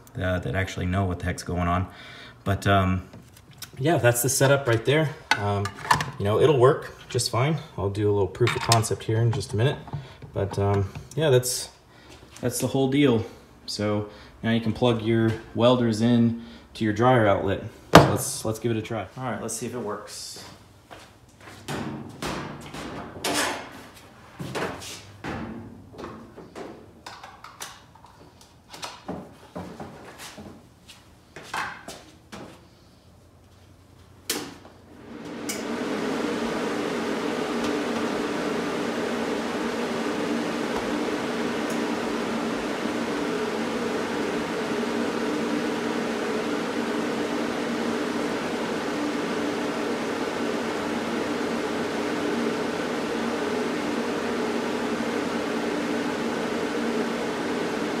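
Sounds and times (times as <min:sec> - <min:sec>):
cooling fan whirring: 0:00.0 - 0:27.2, 0:32.2 - 0:58.0.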